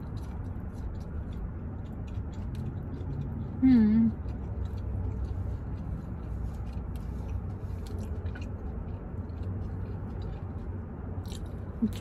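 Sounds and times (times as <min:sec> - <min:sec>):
person chewing wet mouth sounds: 0:00.0 - 0:12.0
steady low hum: 0:00.0 - 0:12.0.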